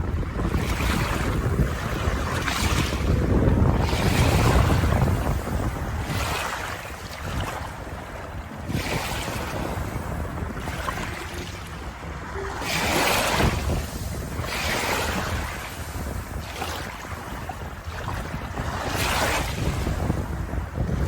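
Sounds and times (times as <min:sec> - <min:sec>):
sea waves washing on shore: 0:00.0 - 0:21.0
wind: 0:00.0 - 0:21.0.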